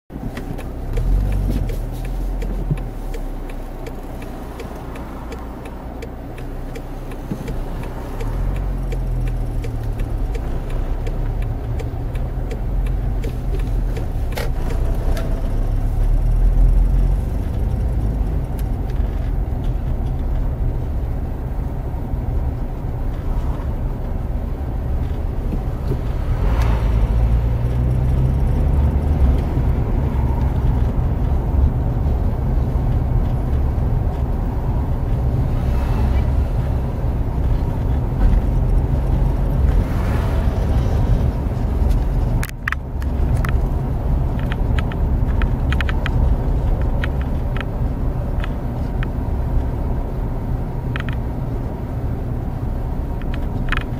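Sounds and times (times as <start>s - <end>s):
car engine: 0.1s - 53.9s
road noise: 0.1s - 53.9s.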